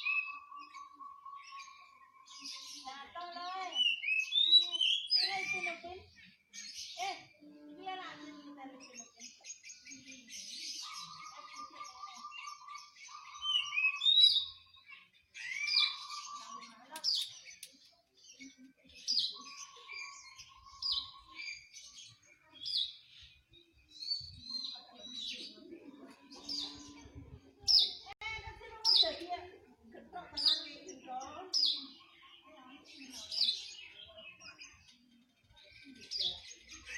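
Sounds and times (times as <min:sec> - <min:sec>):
songbirds whistling and chirping: 0:00.0 - 0:07.4, 0:08.8 - 0:28.1, 0:30.4 - 0:36.9.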